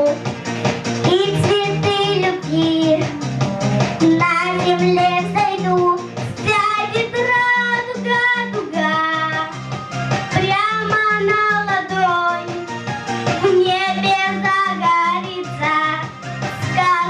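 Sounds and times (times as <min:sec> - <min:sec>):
backing track with pulsing bass: 0:00.0 - 0:17.0.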